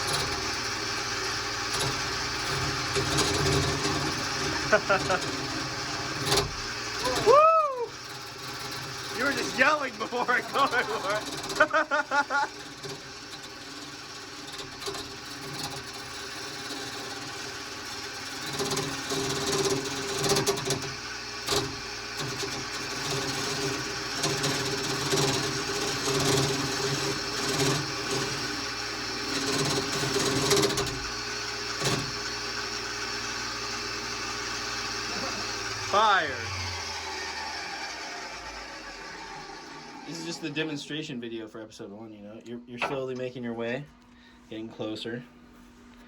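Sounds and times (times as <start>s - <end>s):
turning tool scraping wood: 0.0s - 40.8s
wood lathe motor hum: 0.0s - 40.8s.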